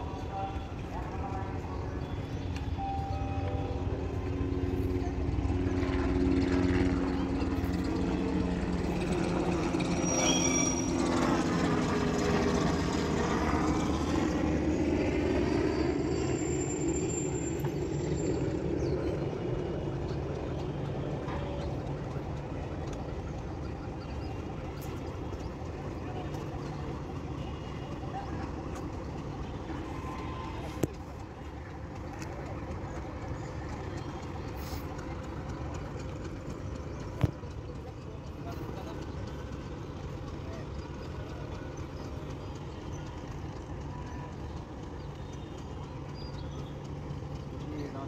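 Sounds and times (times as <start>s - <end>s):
engine humming: 0.0s - 48.0s.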